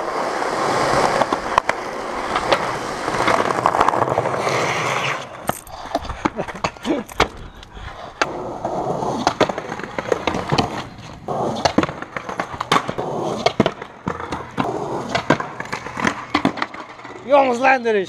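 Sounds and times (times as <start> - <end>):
skateboard clacks: 0.0 - 17.2
skateboard wheels rolling on concrete: 0.0 - 17.8.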